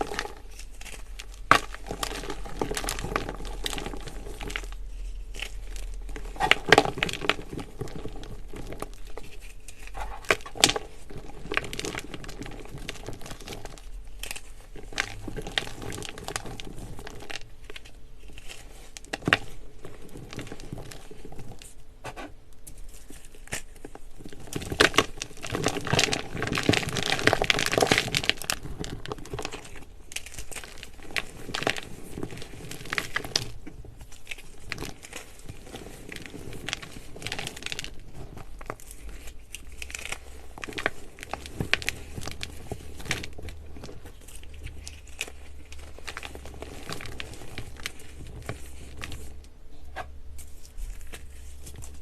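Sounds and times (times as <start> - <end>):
baking soda crackling and crunching: 0.0 - 52.0.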